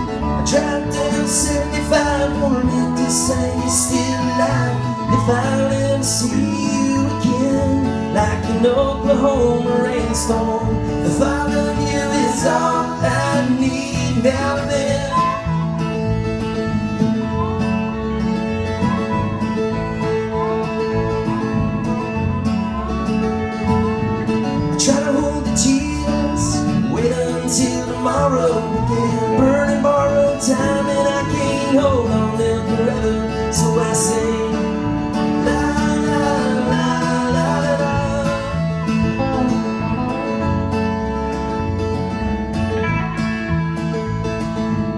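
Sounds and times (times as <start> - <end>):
bass: 0.0 - 44.9
strummed acoustic guitar: 0.0 - 44.9
wavering lead melody: 0.0 - 44.9.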